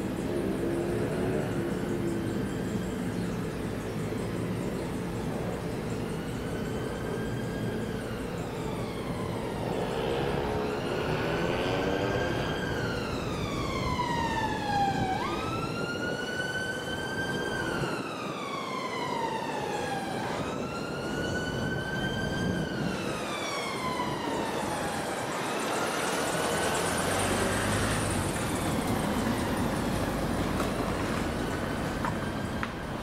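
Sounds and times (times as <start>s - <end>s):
emergency siren wailing: 0.0s - 33.0s
steady background noise: 0.0s - 33.0s.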